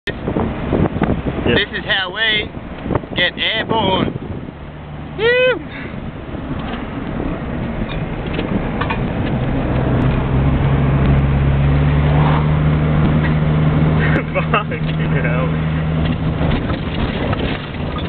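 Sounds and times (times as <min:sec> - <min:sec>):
road and wind noise: 0:00.0 - 0:18.0
car engine droning: 0:00.1 - 0:18.0.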